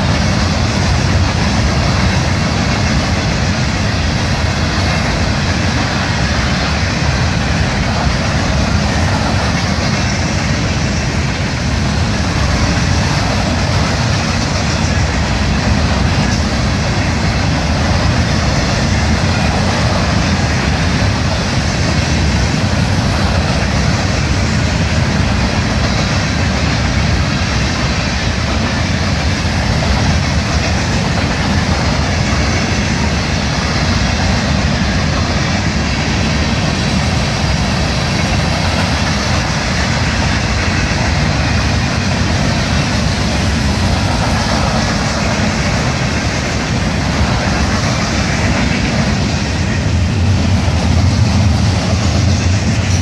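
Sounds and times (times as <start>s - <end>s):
freight train rumble and wheel clatter: 0.0s - 53.0s.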